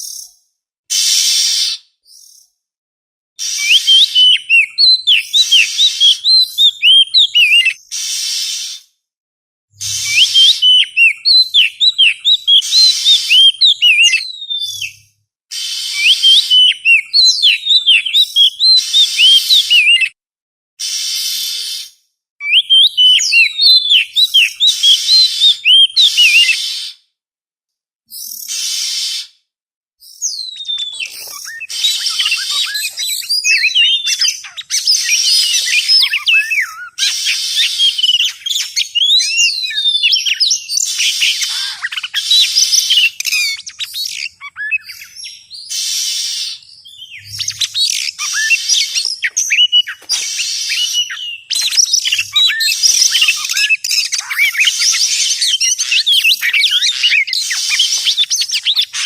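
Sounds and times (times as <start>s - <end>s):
bird singing: 0.0s - 0.4s, 3.4s - 7.9s, 9.8s - 15.1s, 15.9s - 20.2s, 22.4s - 26.6s, 30.0s - 59.0s.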